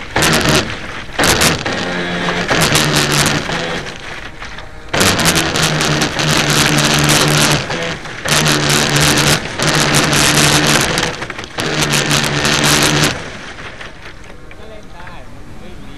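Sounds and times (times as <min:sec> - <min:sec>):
model boat engine buzzing: 0:00.0 - 0:14.6.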